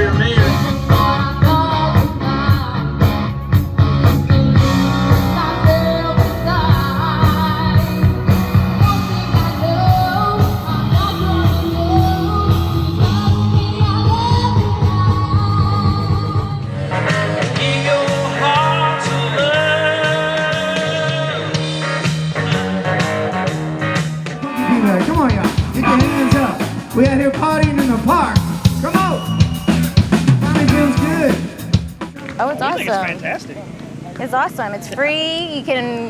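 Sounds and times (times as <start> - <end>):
rock band music with singing: 0.0 - 33.1.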